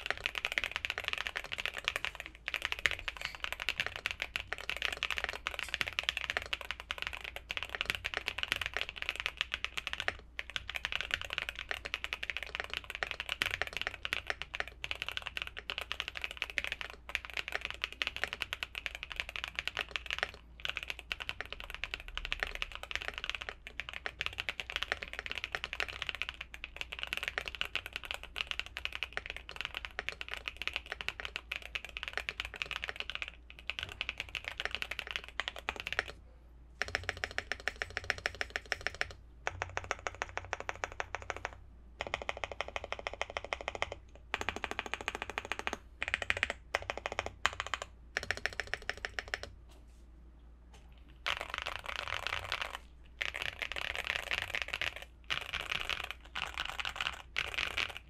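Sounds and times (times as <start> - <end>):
fast mechanical keyboard typing: 0.0 - 36.2, 36.8 - 49.6, 51.2 - 58.0.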